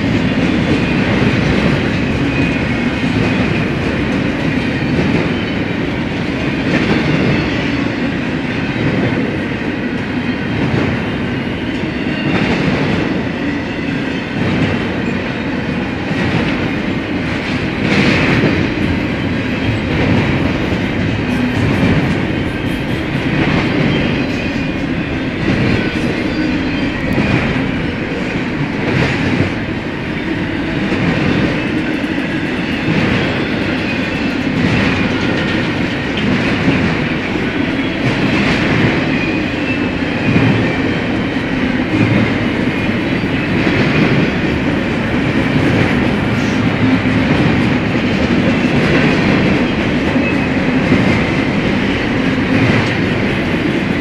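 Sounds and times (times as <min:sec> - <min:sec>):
steel wheels rumbling on rail: 0:00.0 - 0:54.0
wheels clacking over rail joints: 0:00.0 - 0:54.0.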